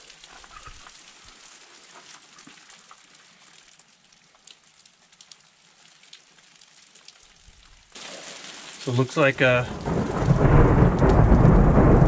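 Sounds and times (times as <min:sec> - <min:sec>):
faint steady rain hiss: 0:00.0 - 0:12.0
raindrops ticking: 0:00.0 - 0:12.0.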